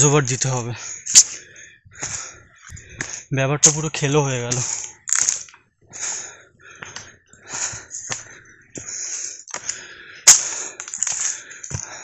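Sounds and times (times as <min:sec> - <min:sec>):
footsteps crunching on stony path: 0:00.0 - 0:12.0.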